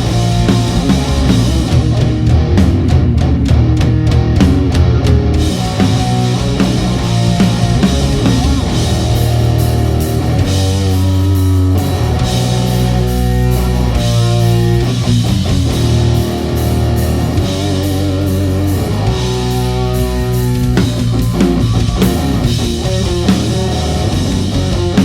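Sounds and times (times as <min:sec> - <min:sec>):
electric guitar with vibrato: 0:00.0 - 0:25.0
live rock band playing: 0:00.0 - 0:25.0.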